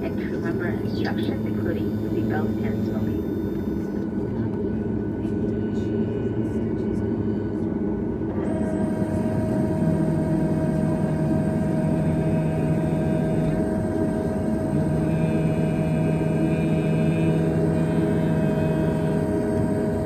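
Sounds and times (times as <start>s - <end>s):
low hum: 0.0s - 20.0s
steady whine: 0.0s - 20.0s.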